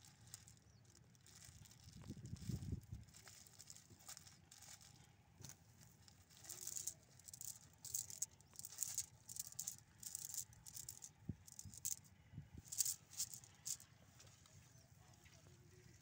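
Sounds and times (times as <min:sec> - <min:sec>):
net mesh rustling and crackling: 0:00.0 - 0:12.0, 0:12.7 - 0:13.8.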